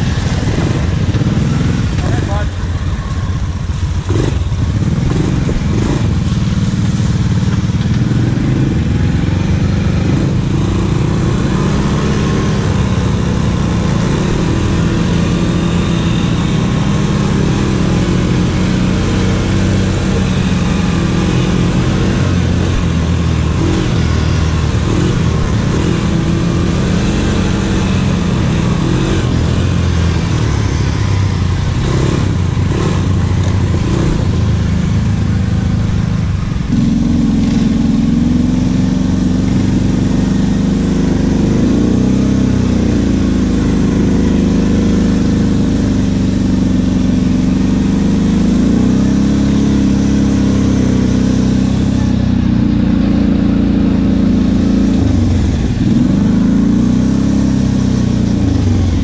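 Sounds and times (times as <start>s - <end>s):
atv engine revving: 0.0s - 59.0s
steady rushing noise: 0.0s - 59.0s.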